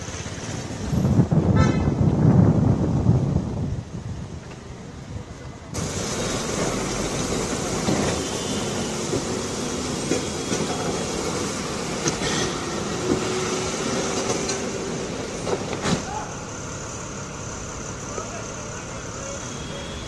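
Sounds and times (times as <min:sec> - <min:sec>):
passing traffic: 0:00.0 - 0:20.0.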